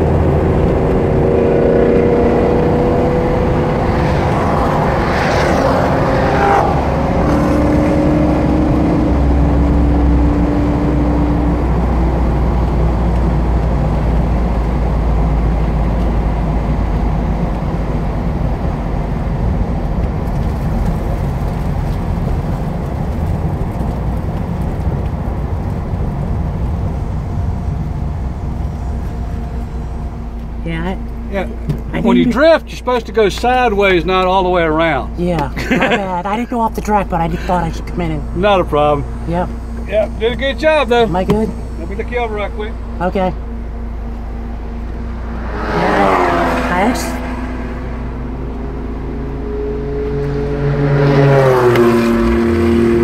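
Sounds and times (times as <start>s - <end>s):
car engine at low revs: 0.0s - 53.0s
road and wind noise: 0.0s - 53.0s.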